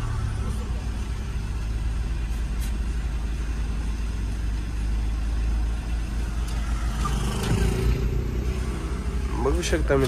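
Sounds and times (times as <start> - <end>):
road noise: 0.0 - 10.0
vehicle engine rumble: 0.0 - 10.0.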